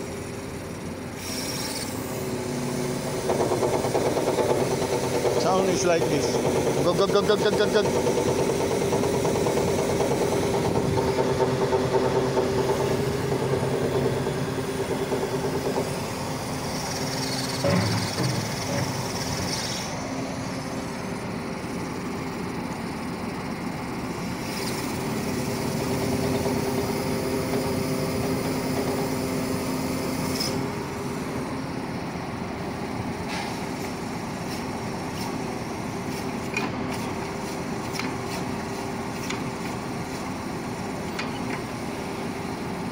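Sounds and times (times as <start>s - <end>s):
hydraulic system whine: 0.0s - 42.9s.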